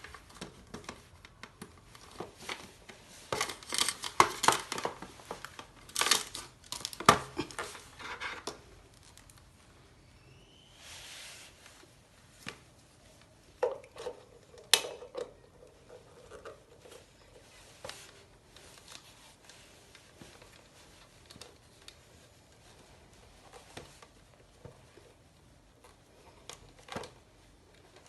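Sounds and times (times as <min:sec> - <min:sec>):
faint steady background noise: 0:00.0 - 0:28.0.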